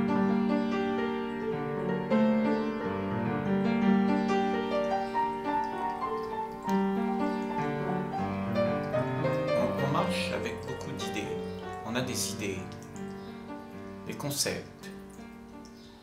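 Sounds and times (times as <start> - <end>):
keyboard melody over held chords: 0.0 - 14.1.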